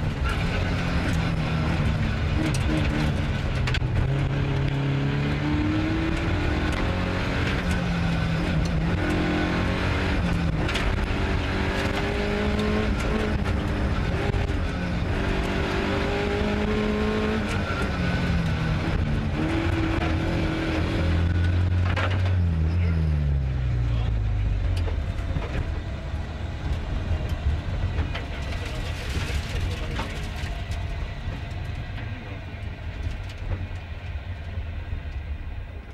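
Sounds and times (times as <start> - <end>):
car engine revving through gears: 0.0 - 31.1.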